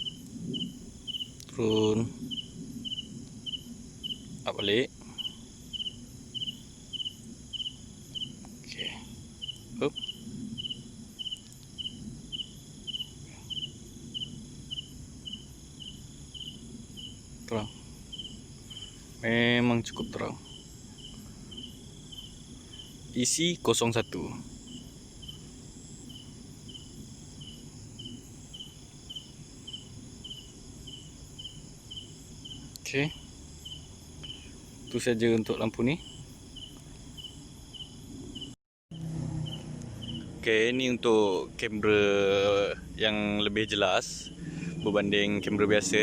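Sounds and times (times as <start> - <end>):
cricket chirping: 0.0 - 46.0
high-pitched insect drone: 0.0 - 46.0.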